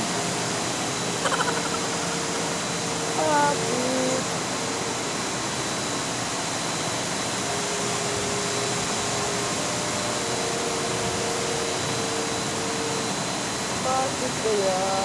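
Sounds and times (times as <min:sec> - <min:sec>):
condenser fans running: 0:00.0 - 0:15.0
faint high whine: 0:00.0 - 0:15.0.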